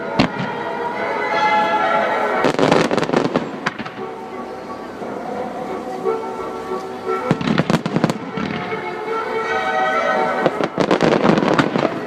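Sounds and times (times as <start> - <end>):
music with sustained tones: 0.0 - 12.0.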